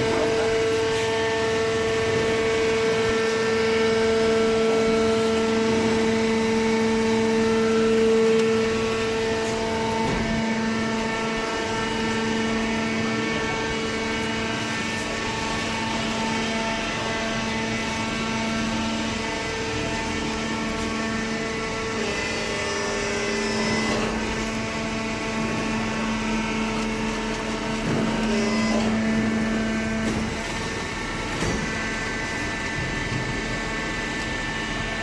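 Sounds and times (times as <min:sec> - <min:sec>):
hydraulic power unit humming: 0:00.0 - 0:35.0.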